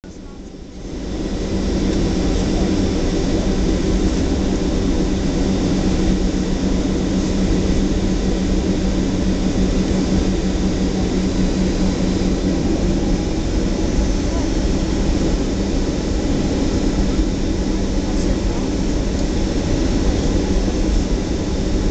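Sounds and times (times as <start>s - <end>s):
jet engines at takeoff thrust: 0.0s - 21.9s.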